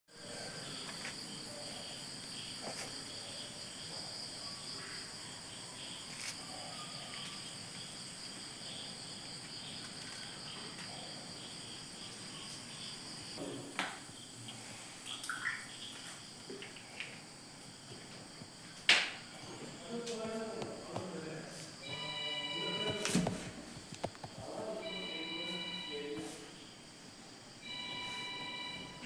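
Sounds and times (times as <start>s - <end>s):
crickets chirring: 0.1s - 29.0s.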